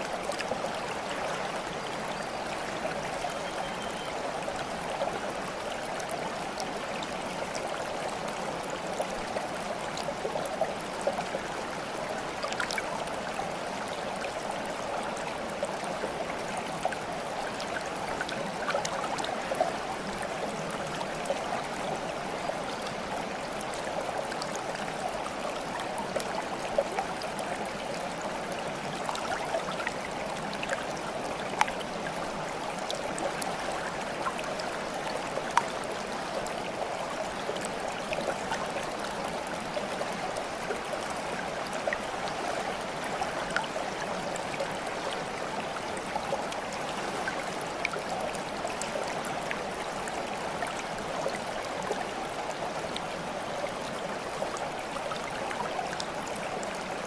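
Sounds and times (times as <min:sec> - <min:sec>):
water babbling in a stream: 0:00.0 - 0:57.0.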